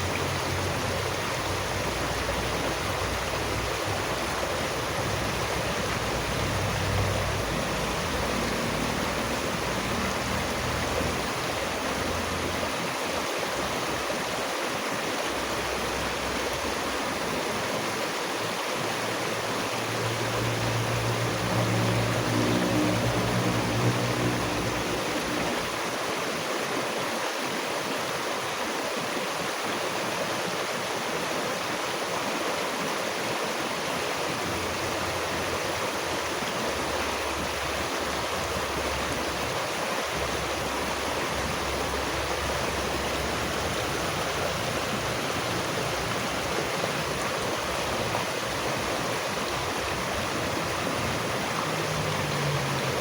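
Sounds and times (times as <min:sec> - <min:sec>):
flowing stream: 0:00.0 - 0:53.0.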